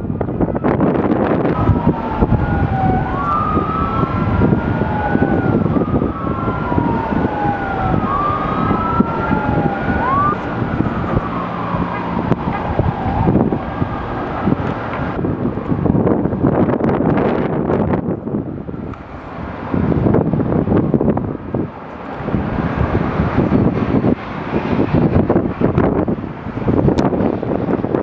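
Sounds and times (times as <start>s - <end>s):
emergency vehicle siren wailing: 0.0s - 28.0s
wind noise on microphone: 0.0s - 28.0s.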